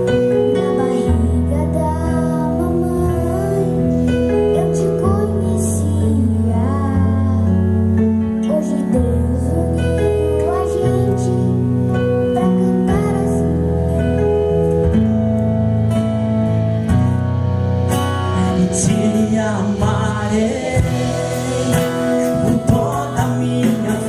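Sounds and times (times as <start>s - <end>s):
band playing slow gospel music: 0.0s - 24.0s.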